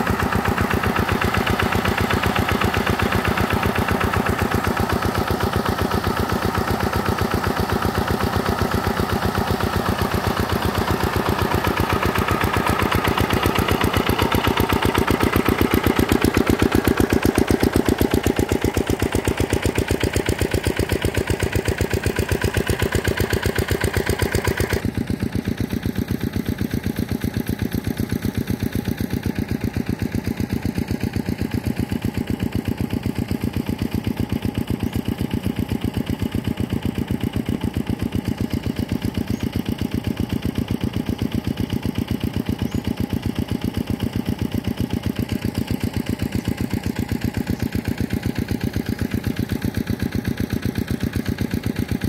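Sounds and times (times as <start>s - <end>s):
diesel water pump engine running: 0.0s - 52.0s.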